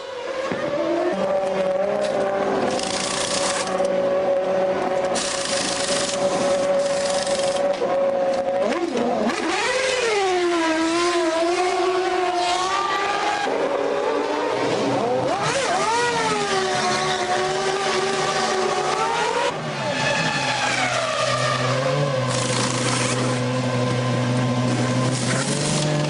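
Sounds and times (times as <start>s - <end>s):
racing car engines revving: 0.0s - 26.0s
engine at steady lower pitch: 1.1s - 26.0s.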